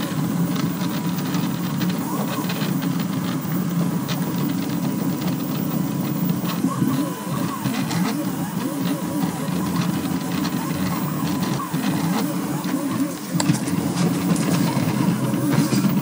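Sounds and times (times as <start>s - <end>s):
stepper motors singing: 0.0s - 16.0s.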